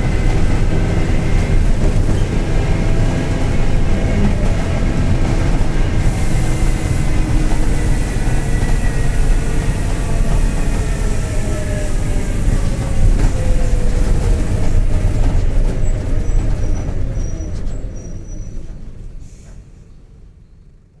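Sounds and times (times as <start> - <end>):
bus diesel engine whining: 0.0 - 21.0.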